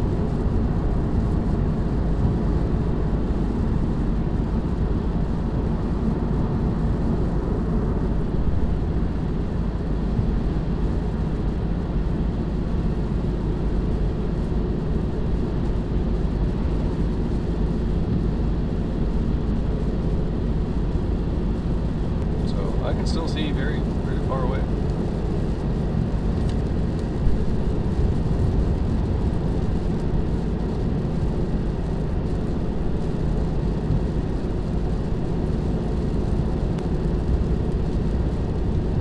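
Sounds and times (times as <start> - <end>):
road and tyre noise: 0.0 - 39.0.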